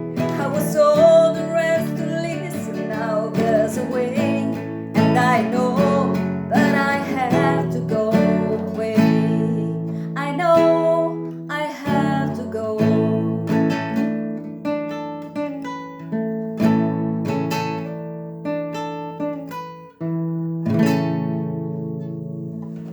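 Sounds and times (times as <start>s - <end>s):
acoustic guitar strumming: 0.0s - 22.9s.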